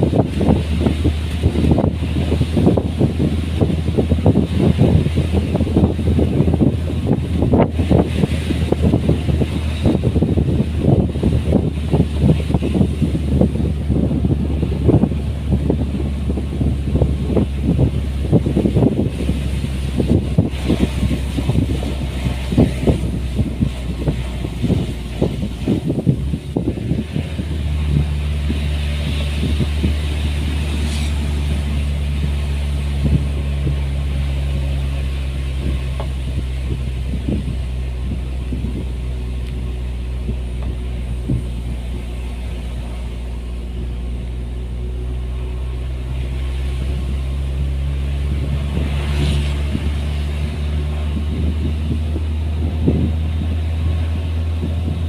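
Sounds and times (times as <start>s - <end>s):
engine knocks: 0.0s - 55.0s
engine running steadily: 0.0s - 55.0s.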